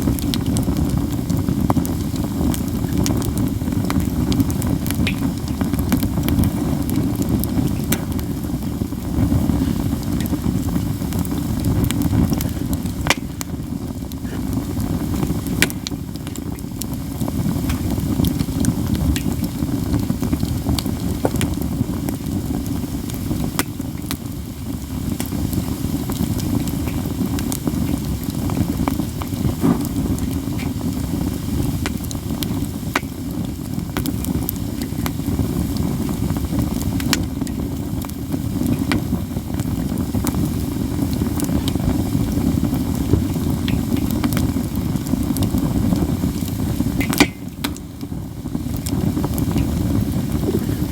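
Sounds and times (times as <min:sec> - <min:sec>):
campfire crackling: 0:00.0 - 0:50.9
low rushing of fire: 0:00.0 - 0:50.9
wood popping in fire: 0:00.0 - 0:50.9.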